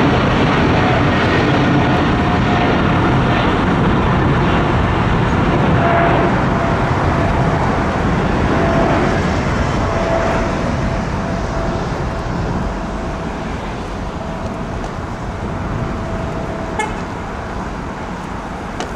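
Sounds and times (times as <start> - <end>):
jet engine roar: 0.0 - 18.9.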